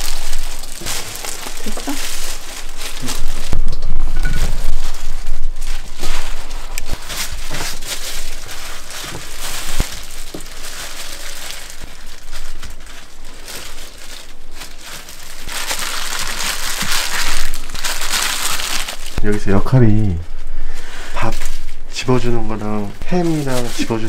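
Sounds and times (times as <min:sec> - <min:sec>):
plastic gloves crinkling: 0:00.0 - 0:24.0.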